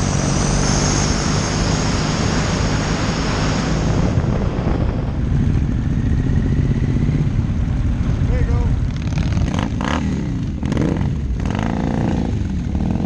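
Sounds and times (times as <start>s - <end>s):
wind rushing: 0.0s - 11.3s
motorcycle engine running: 0.0s - 13.0s.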